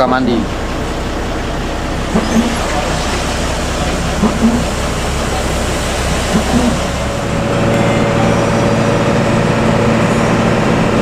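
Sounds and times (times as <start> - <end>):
bus engine humming: 0.0 - 11.0
road noise hiss: 0.1 - 11.0.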